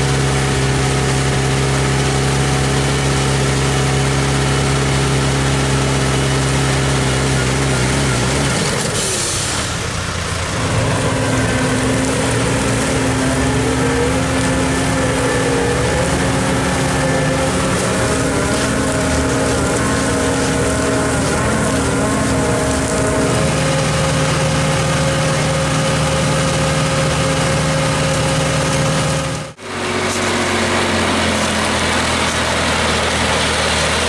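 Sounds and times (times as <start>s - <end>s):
combine harvester running: 0.0s - 34.0s
tractor diesel engine running: 0.0s - 34.0s.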